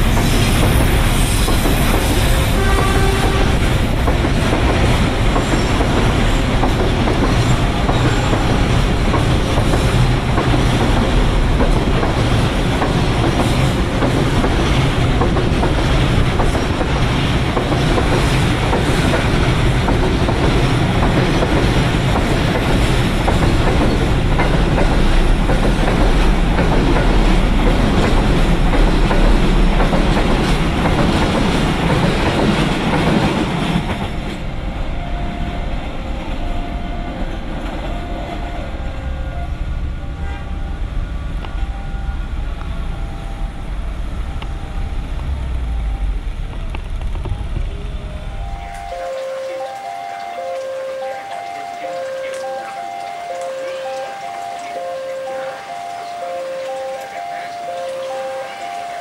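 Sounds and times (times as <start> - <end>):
freight train wheels rolling on rails: 0.0 - 59.0.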